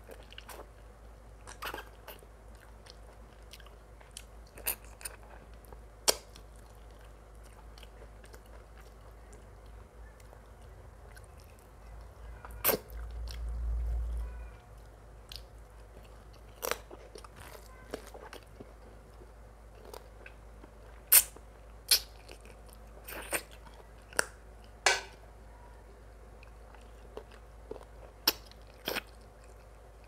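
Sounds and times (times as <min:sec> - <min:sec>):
chewing and biting food: 0:01.4 - 0:24.8, 0:26.4 - 0:30.0.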